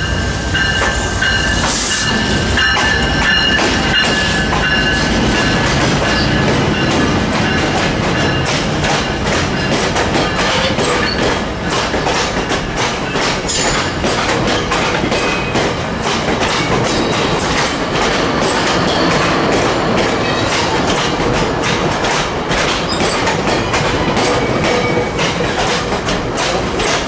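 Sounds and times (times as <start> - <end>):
train cars rolling rumble: 0.0 - 27.0
wheels clicking on track: 2.6 - 27.0.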